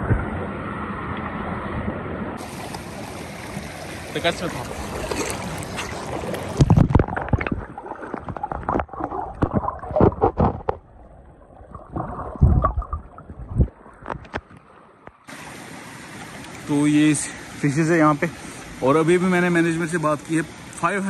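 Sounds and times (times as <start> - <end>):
underwater water gurgling and sloshing: 0.0 - 21.0.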